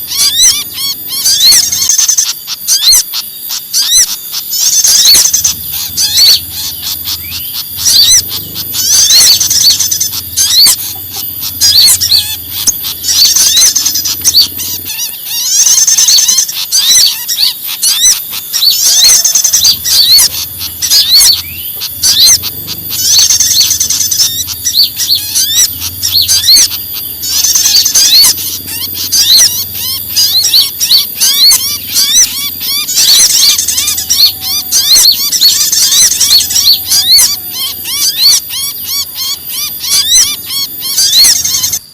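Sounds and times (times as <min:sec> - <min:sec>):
songbirds alarm calls: 0:00.0 - 0:41.9.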